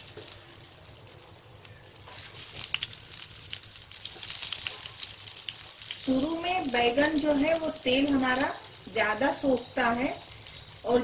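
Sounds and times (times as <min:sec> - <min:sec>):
eggplant sizzling in hot oil: 0:00.0 - 0:11.0
oil crackling and popping: 0:00.0 - 0:11.0.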